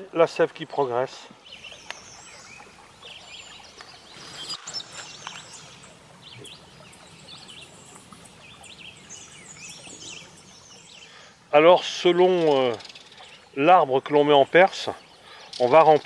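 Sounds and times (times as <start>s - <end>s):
faint outdoor background noise: 0.0s - 16.0s
wild birds chirping and singing: 0.6s - 16.0s.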